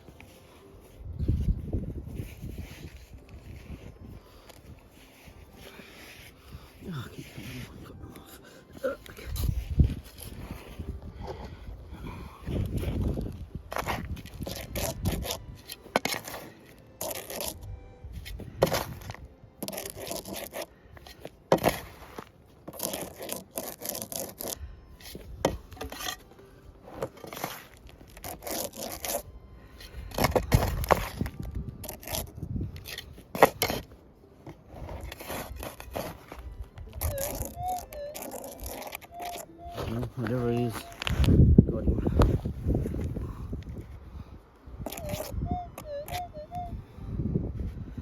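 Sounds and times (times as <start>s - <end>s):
gravel being raked: 0.0s - 11.0s, 12.5s - 41.4s
hand tool scraping soil and rock: 0.0s - 11.5s, 12.4s - 41.4s, 44.8s - 45.4s.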